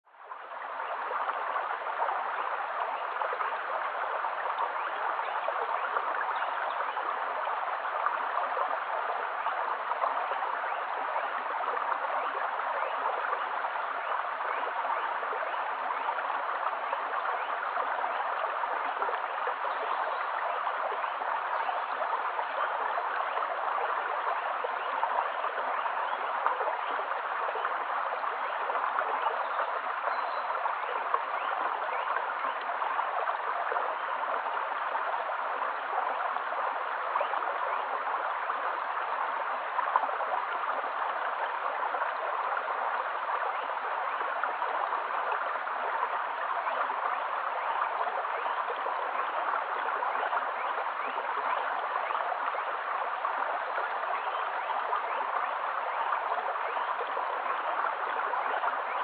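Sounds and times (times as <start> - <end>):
stream babbling over stones: 0.1 - 59.0.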